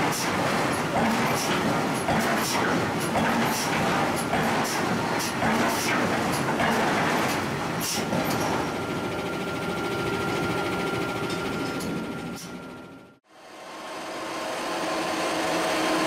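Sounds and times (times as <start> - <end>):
machinery running: 0.0 - 16.0.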